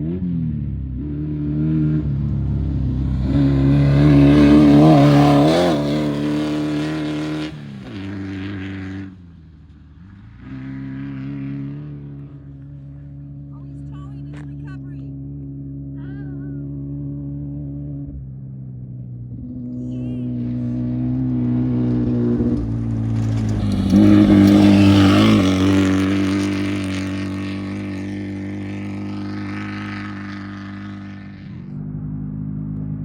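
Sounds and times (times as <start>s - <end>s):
low engine hum: 0.0s - 33.0s
race vehicle engine passing: 0.0s - 33.0s.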